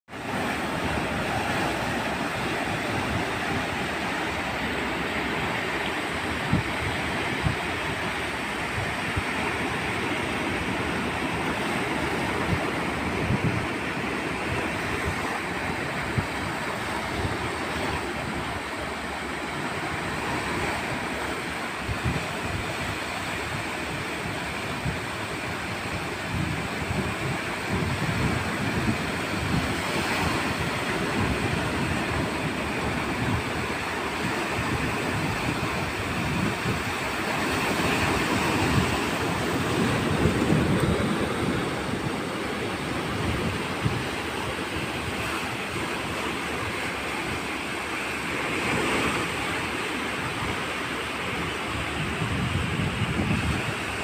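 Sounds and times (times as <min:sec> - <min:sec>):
surf breaking on shore: 0:00.1 - 0:54.0
wind buffeting microphone: 0:00.1 - 0:54.0.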